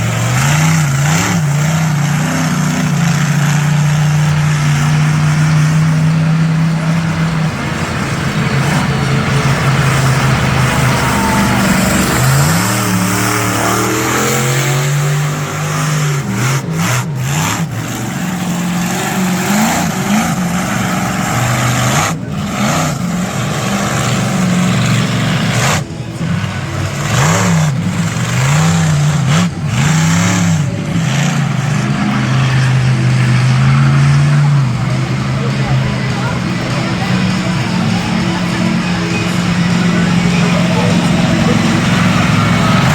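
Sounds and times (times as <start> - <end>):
monster truck engine revving: 0.0 - 42.9
steady rush of noise: 0.0 - 42.9.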